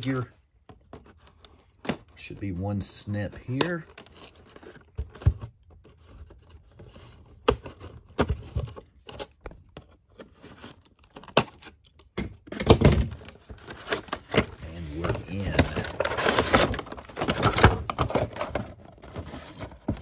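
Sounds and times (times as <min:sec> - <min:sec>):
rustle of cardboard and plastic packaging: 0:00.0 - 0:11.9, 0:12.8 - 0:20.0.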